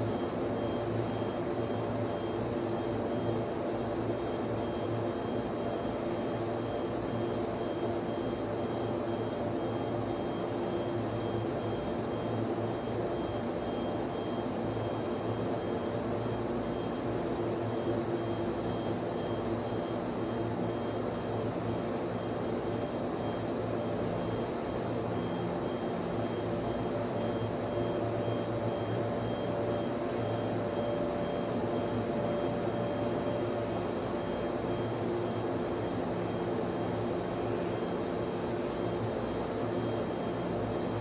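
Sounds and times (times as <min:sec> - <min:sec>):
cooling fans whirring: 0:00.0 - 0:41.0.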